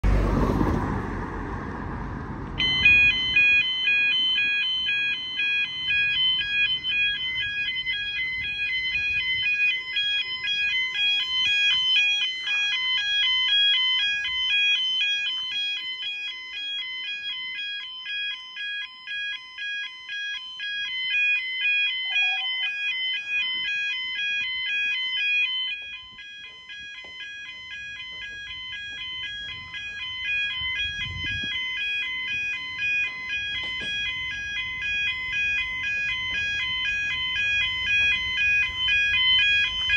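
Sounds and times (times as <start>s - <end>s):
level crossing alarm warbling: 2.6s - 39.9s.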